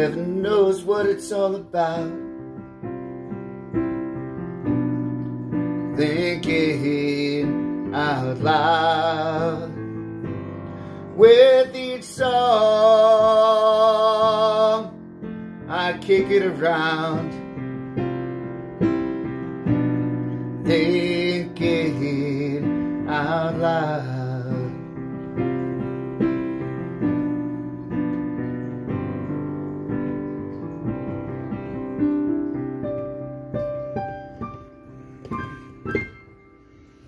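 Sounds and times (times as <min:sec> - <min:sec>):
digital piano chords: 0:00.0 - 0:37.0.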